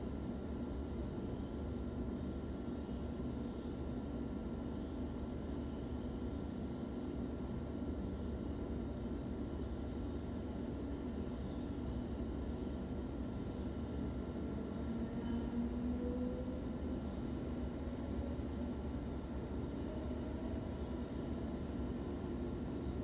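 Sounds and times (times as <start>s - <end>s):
electric train hum and whir: 0.0s - 23.0s
faint high whine: 0.0s - 23.0s.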